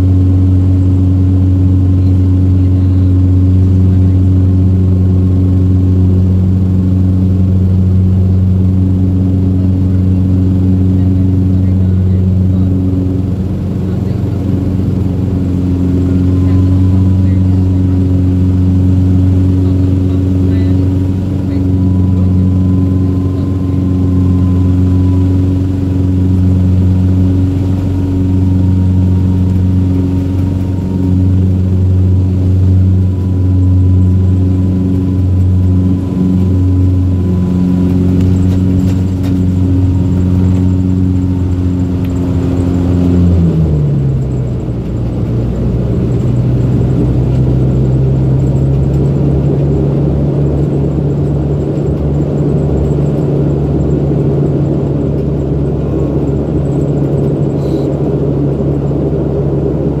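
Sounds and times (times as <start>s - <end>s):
turboprop cabin drone: 0.0s - 60.0s.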